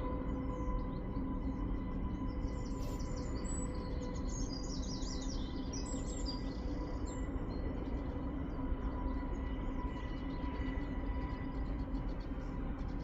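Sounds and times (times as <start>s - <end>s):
songbird chirps and trills: 0.1s - 13.0s.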